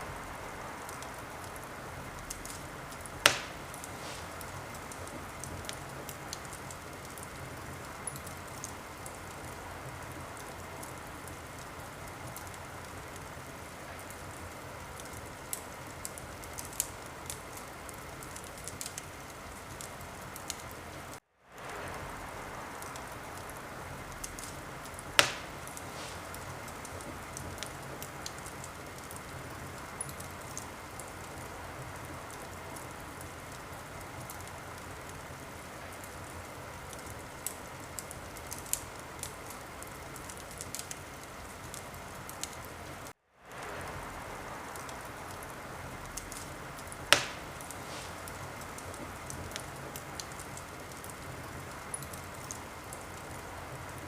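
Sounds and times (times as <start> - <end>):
fire hissing: 0.0 - 54.0
fire popping: 0.0 - 54.0
wood fire crackling: 0.0 - 54.0.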